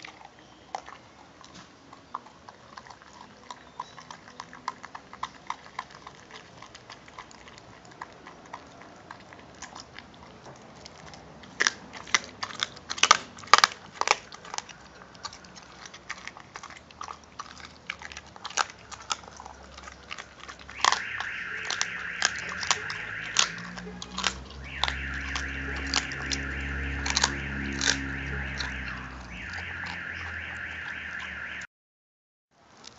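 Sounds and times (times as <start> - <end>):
dog chewing and crunching bone: 0.0 - 30.8, 32.6 - 32.9.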